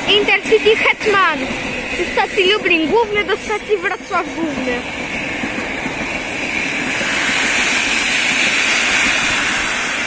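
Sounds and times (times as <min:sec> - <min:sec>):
train wheels rushing on rails: 0:00.0 - 0:10.0.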